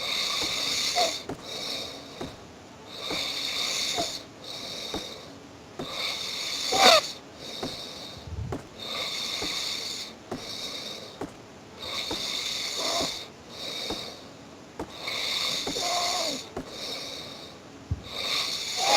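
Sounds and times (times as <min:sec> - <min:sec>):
person snoring: 0:00.0 - 0:11.2, 0:11.8 - 0:14.2, 0:14.9 - 0:18.9.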